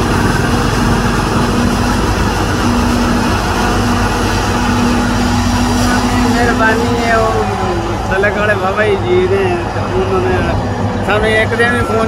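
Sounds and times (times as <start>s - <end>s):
forage harvester machine drone: 0.0s - 12.0s.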